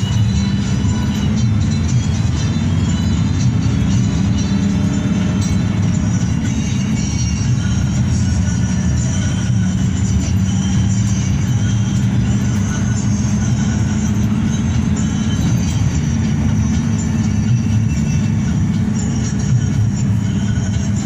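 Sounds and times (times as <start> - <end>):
bus engine and road drone: 0.0 - 21.0.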